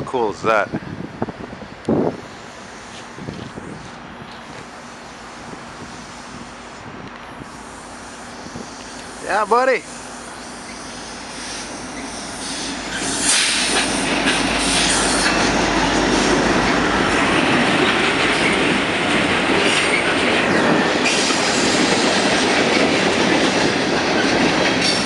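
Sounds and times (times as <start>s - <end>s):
diesel locomotives passing: 0.0s - 25.0s
train wheels on rails: 1.2s - 25.0s.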